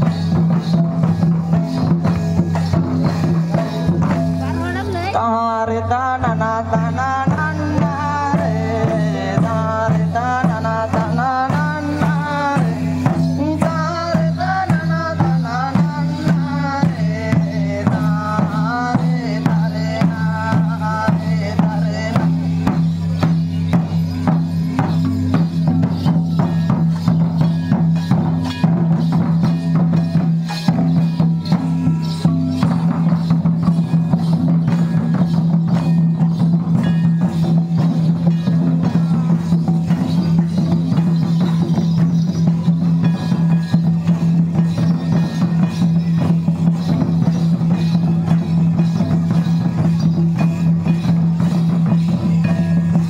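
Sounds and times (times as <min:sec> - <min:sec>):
drums beating quick rhythm: 0:00.0 - 0:53.0.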